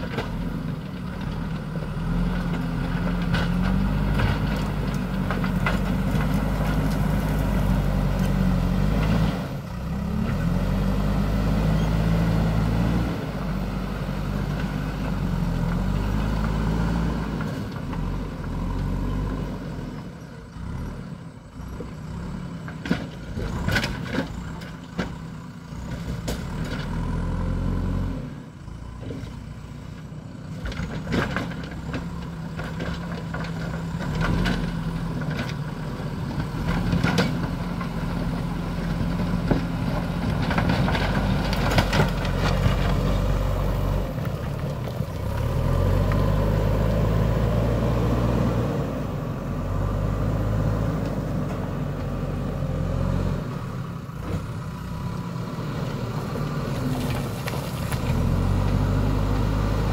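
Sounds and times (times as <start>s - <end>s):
diesel engine working under load: 0.0s - 59.9s.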